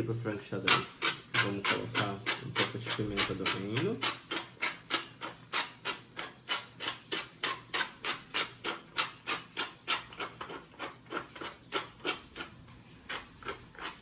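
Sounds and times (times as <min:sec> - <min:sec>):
pepper mill grinding: 0:00.5 - 0:14.0.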